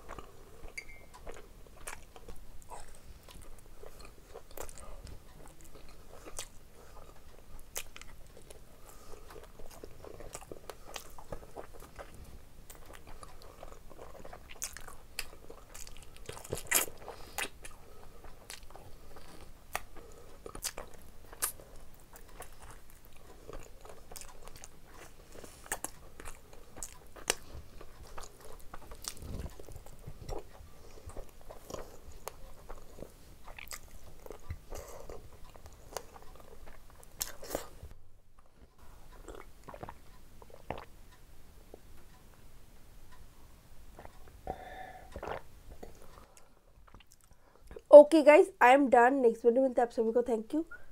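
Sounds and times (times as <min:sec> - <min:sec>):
person chewing chicken: 0:00.0 - 0:37.9, 0:39.1 - 0:40.9, 0:44.0 - 0:47.9.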